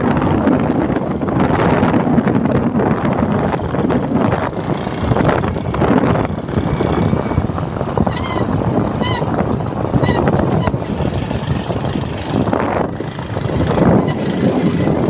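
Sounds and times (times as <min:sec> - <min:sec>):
vehicle driving on dirt track: 0:00.0 - 0:15.0
wind buffeting microphone: 0:00.0 - 0:15.0.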